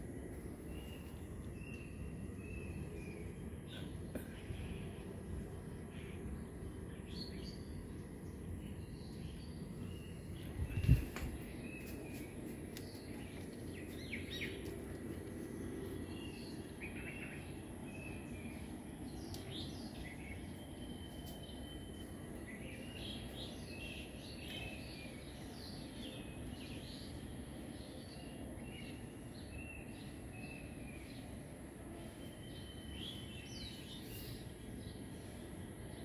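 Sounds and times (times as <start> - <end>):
steady low outdoor noise: 0.0 - 36.0
birds chirping: 0.1 - 35.4.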